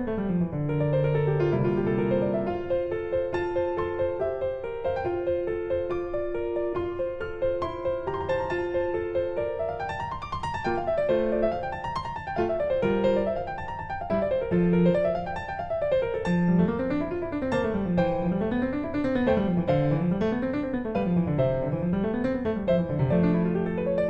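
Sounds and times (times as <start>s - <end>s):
piano music with arpeggios: 0.0s - 24.0s.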